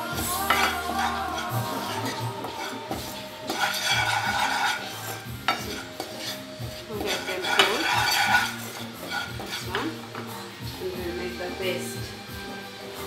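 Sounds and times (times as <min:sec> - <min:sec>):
spatula scraping frying pan: 0:00.0 - 0:13.0.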